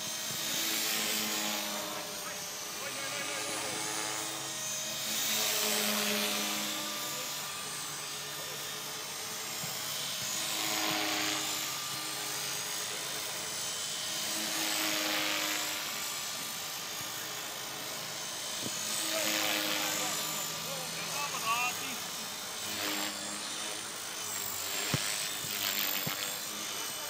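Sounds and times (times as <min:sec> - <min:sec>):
model helicopter motor whine: 0:00.0 - 0:27.0
rotor whoosh: 0:00.0 - 0:27.0.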